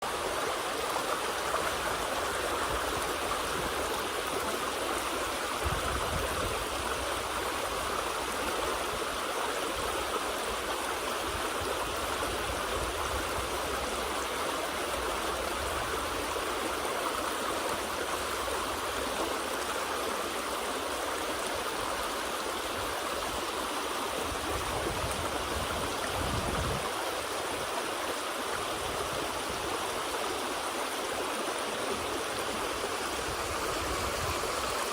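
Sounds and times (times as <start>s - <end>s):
river water running: 0.0s - 34.9s.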